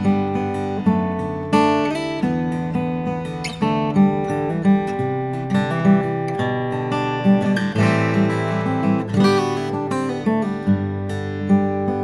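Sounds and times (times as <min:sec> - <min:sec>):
acoustic guitar fingerpicked chords: 0:00.0 - 0:12.0.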